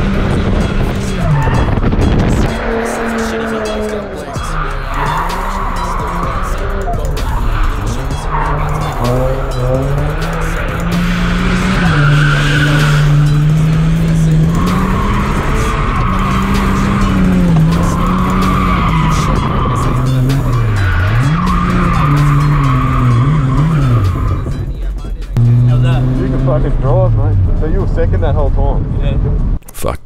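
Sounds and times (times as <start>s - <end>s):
car engine revving high: 0.0s - 29.2s.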